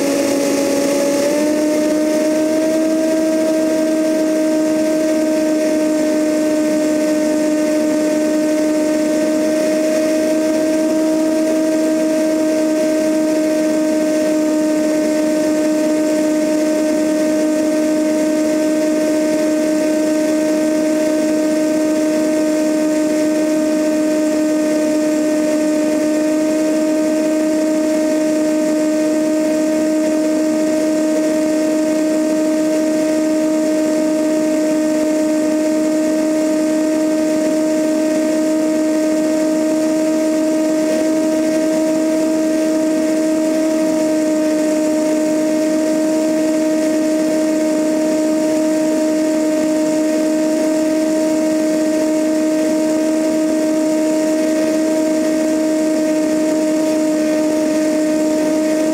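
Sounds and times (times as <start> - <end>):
aircraft engine and propeller droning: 0.0 - 58.9.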